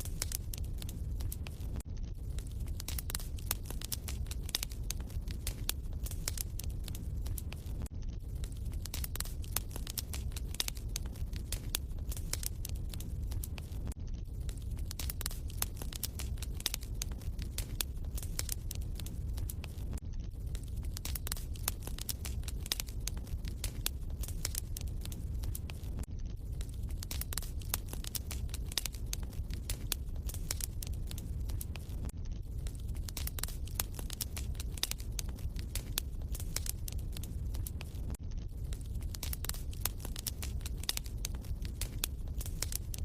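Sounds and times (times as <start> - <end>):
fire low rumble: 0.0 - 43.0
wood fire pops and snaps: 0.0 - 43.0.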